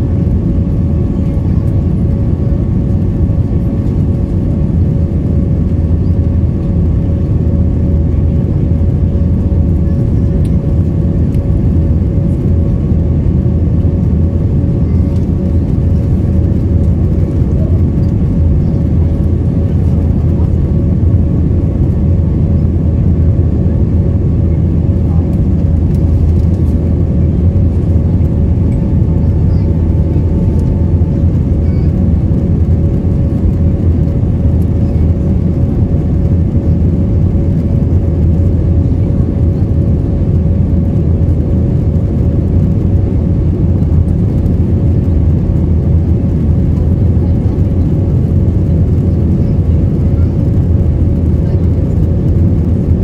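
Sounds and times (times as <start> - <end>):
jet engines roaring in cabin: 0.0 - 53.0.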